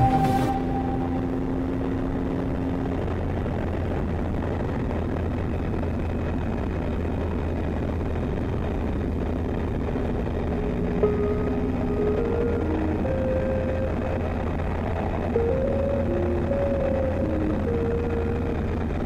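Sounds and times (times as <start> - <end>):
motorcycle engine drone: 0.0 - 19.0
wind and road rush: 0.0 - 19.0.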